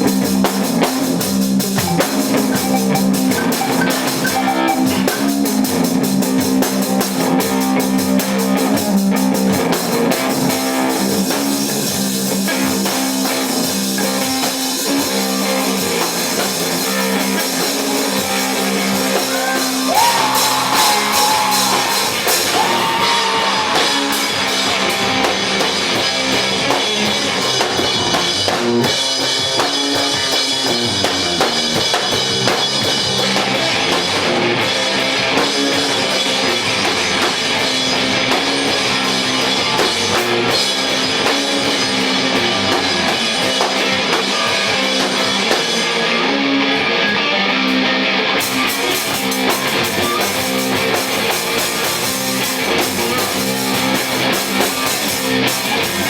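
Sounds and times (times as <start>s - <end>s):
drum kit with cymbals: 0.0s - 46.8s, 47.6s - 56.0s
electric guitar: 0.0s - 56.0s.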